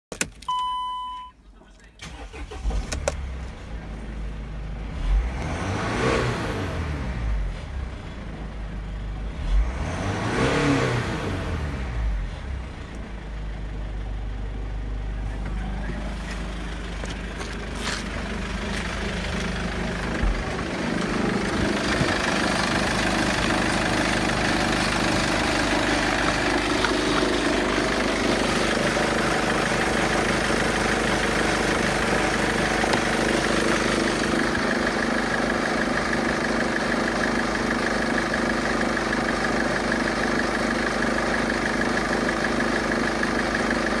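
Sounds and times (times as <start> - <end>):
diesel engine idling: 1.7 - 4.9, 11.3 - 44.0.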